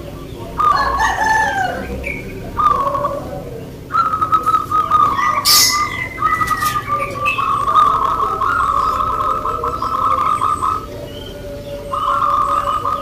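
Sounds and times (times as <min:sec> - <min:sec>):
dove cooing trill: 0:00.0 - 0:13.0.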